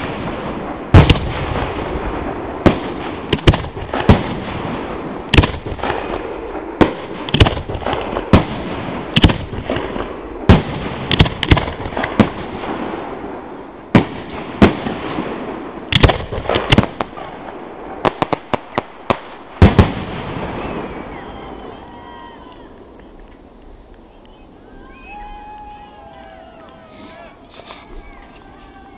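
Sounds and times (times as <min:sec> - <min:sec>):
firework shells bursting with bangs: 0:00.0 - 0:24.2
fireworks crackling: 0:00.0 - 0:28.9.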